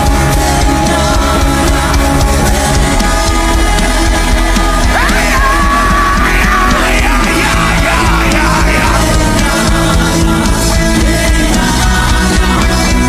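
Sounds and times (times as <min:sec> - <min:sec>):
band playing worship music: 0:00.0 - 0:13.0
person singing: 0:00.0 - 0:13.0.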